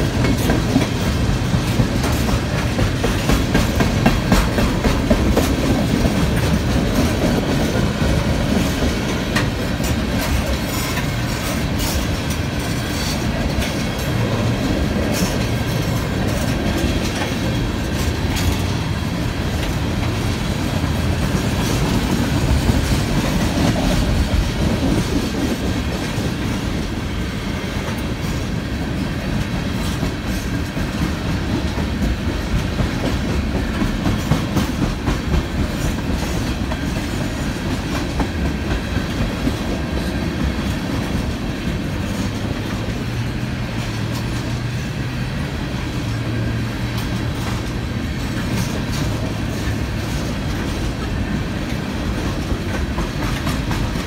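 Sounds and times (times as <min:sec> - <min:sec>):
steel wheels rumbling on rails: 0:00.0 - 0:54.0
wheels clickety-clack on rail joints: 0:00.0 - 0:54.0.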